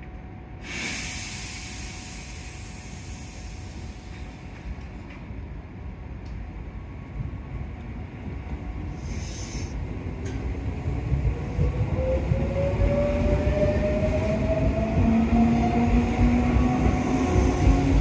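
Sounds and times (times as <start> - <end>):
train low rumble: 0.0 - 18.0.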